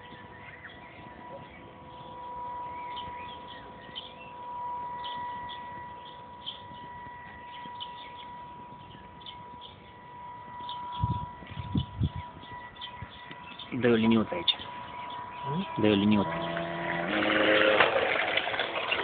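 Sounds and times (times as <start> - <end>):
small birds chirping: 0.0 - 16.9
model boat motor whining: 0.0 - 19.0.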